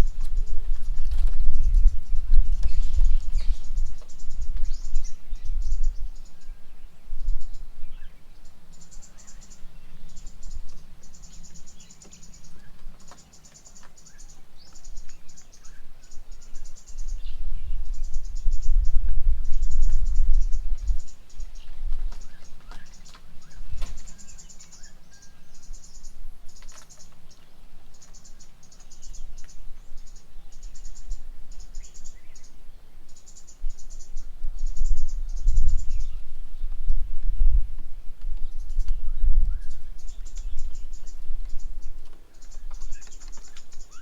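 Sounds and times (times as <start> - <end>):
faint bird chirps: 0.0 - 37.8, 38.4 - 44.0.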